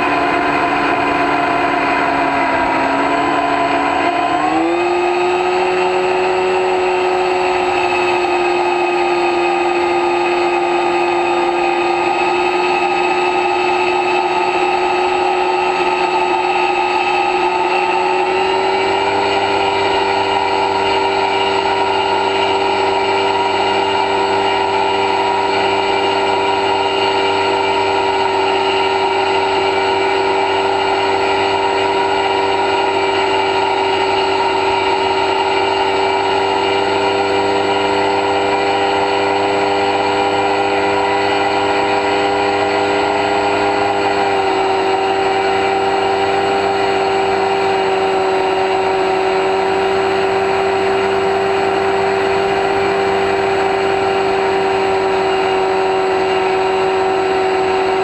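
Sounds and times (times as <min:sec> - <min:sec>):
electric motor propeller whine: 0:00.0 - 0:58.0.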